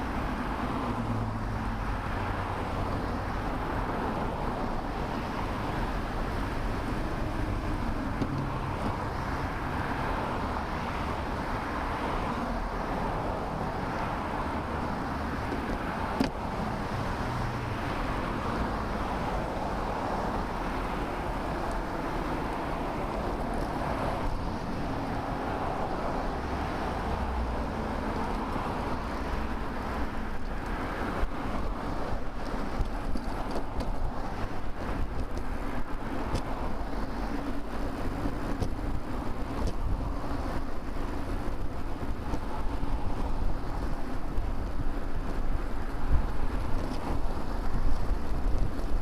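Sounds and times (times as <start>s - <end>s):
motor traffic: 0.0s - 49.0s
wind and road noise: 0.0s - 49.0s.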